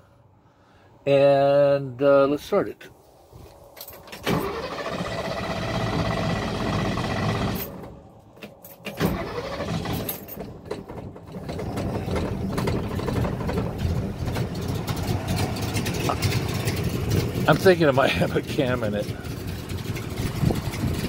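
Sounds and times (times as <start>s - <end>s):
car engine starting and running: 3.9s - 21.0s.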